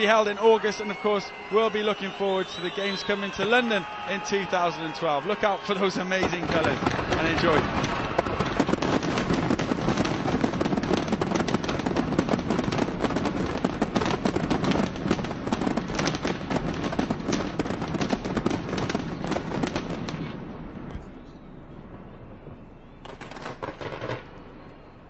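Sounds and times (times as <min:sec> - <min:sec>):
fireworks crackling and bursting: 0:00.0 - 0:20.9, 0:23.0 - 0:24.6.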